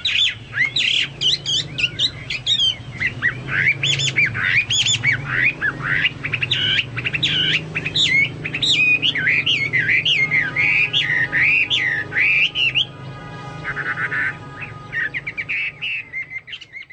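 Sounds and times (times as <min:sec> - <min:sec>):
bird singing whistled phrases: 0:00.0 - 0:12.9, 0:13.7 - 0:16.9.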